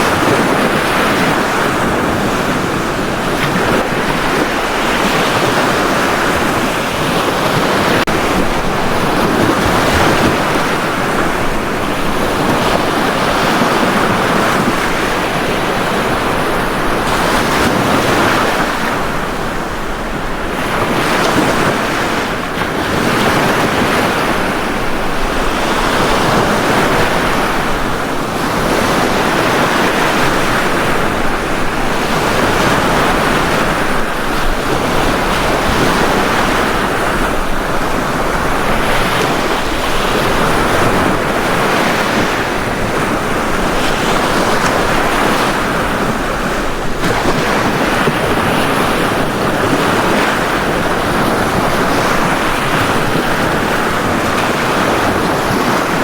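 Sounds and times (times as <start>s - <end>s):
ocean waves breaking on beach: 0.0s - 56.0s
wind on microphone: 0.0s - 56.0s.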